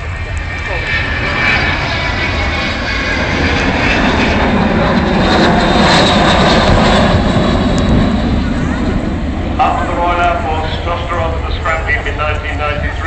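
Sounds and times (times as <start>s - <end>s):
jet bomber flying by: 0.0s - 13.0s.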